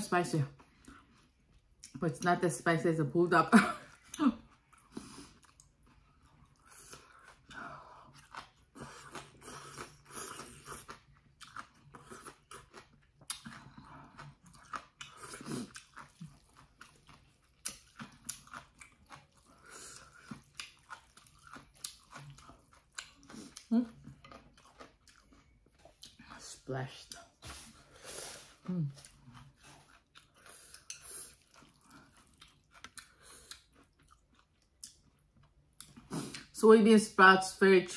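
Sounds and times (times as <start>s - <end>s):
chewing noodles: 3.9s - 36.5s.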